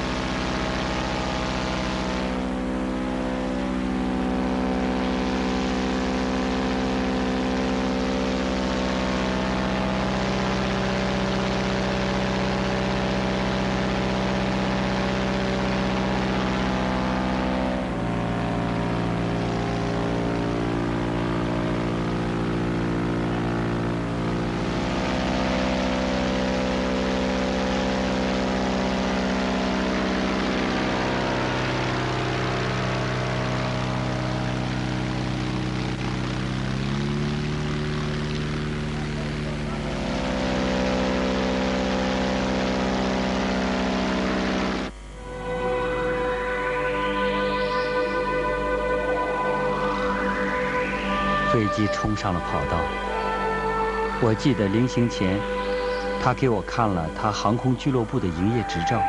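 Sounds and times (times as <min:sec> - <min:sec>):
light aircraft engine running: 0:00.0 - 0:59.0.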